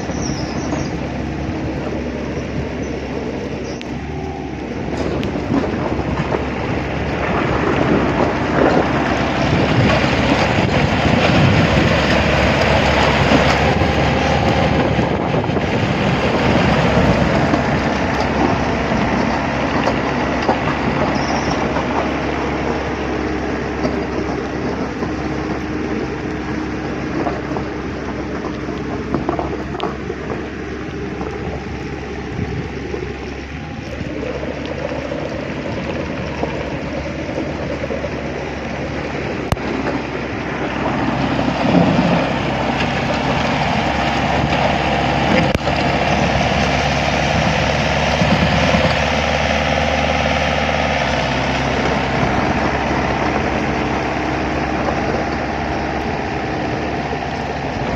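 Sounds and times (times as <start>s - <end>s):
motor running with rattling: 0.0s - 57.9s.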